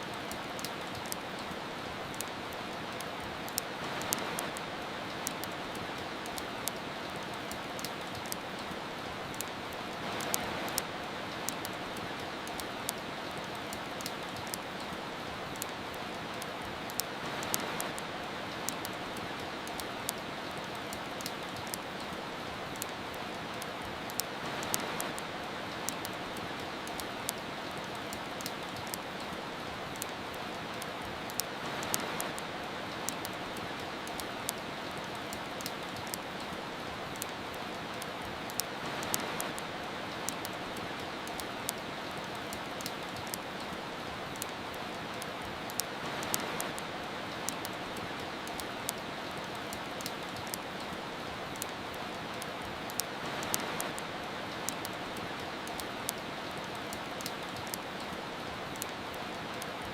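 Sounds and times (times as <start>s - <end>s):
fireplace crackling and popping: 0.0s - 59.9s
soft rain: 0.0s - 59.9s.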